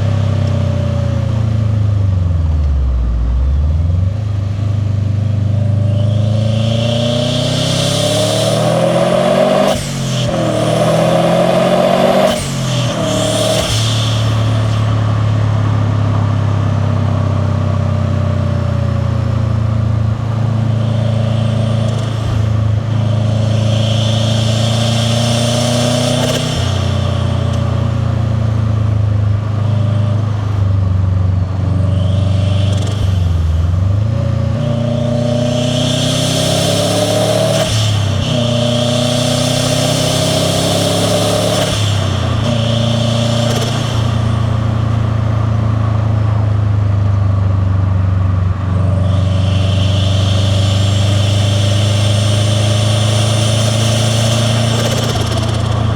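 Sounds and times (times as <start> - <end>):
turbo air rush: 0.0 - 47.1, 47.9 - 55.9
car engine accelerating: 0.0 - 55.9.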